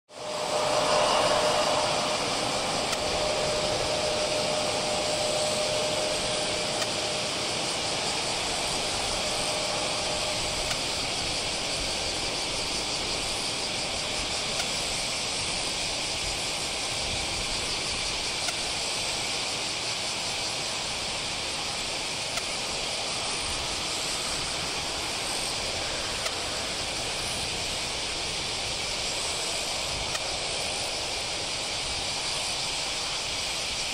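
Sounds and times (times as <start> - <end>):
distant jet aircraft hiss: 0.1 - 33.9
faint steady tone: 0.2 - 33.2.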